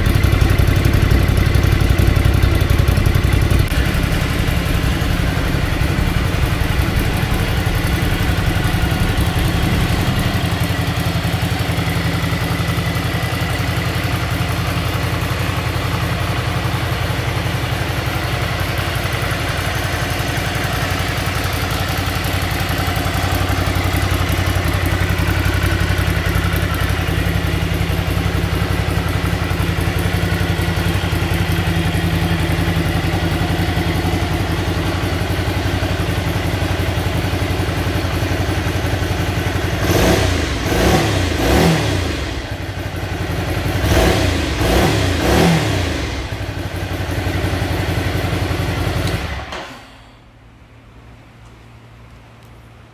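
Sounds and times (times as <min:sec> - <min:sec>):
motorcycle engine idling and revving: 0:00.0 - 0:52.9.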